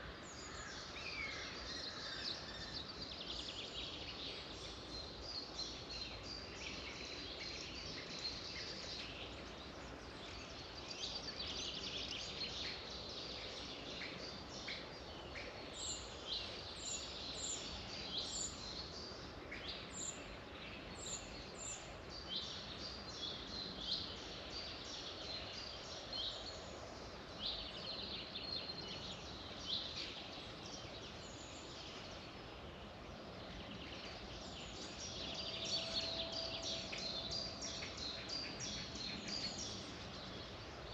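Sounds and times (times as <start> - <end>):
songbirds chirping and trilling: 0.0 - 40.9
steady background hiss: 0.0 - 40.9.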